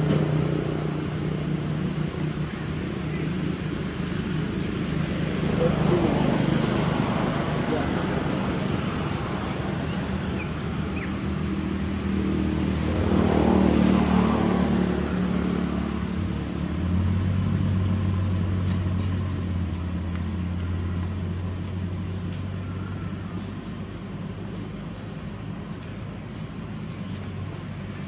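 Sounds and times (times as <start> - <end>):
motor engine running: 0.0 - 24.1
high-pitched hiss: 0.0 - 28.0.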